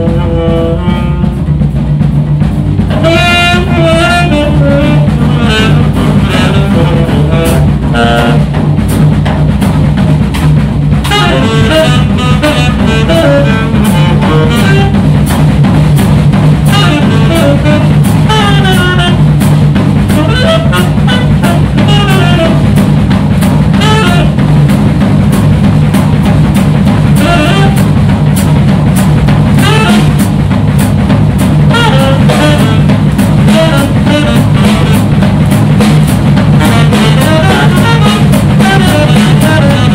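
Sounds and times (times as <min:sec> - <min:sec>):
drum kit snare and cymbals: 0:00.0 - 0:39.9
saxophone playing fast runs: 0:00.0 - 0:39.9
walking double bass: 0:00.0 - 0:39.9.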